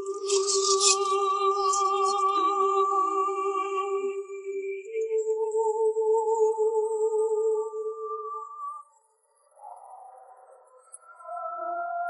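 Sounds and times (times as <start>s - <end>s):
soft sustained background music: 0.0s - 12.0s.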